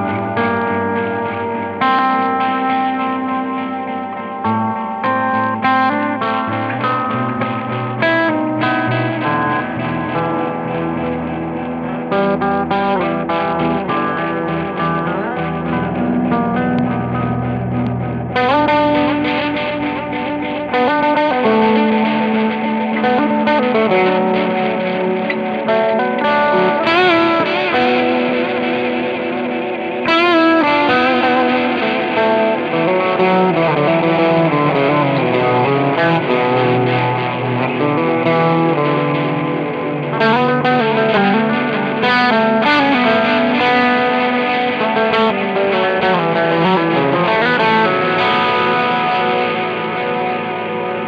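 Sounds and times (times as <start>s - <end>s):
overdriven electric guitar with echo: 0.0s - 51.0s.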